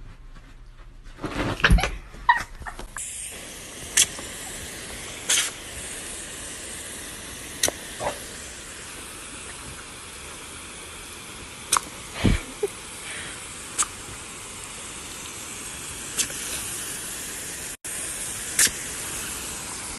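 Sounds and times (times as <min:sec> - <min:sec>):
hose nozzle spraying water: 0:02.9 - 0:19.9.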